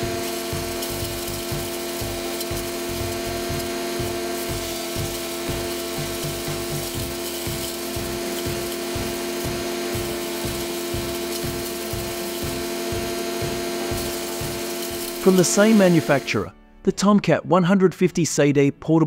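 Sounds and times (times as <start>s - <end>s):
wood chipper running: 0.0s - 16.5s.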